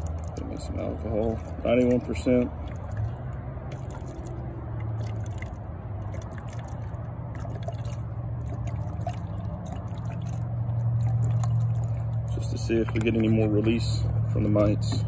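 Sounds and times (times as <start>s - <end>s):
liquid pouring into a glass jar: 0.0s - 13.3s
road traffic rumble: 0.0s - 15.0s.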